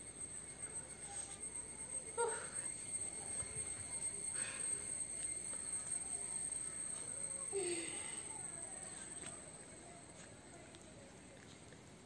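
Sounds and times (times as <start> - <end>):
high-pitched whine: 0.0 - 11.2.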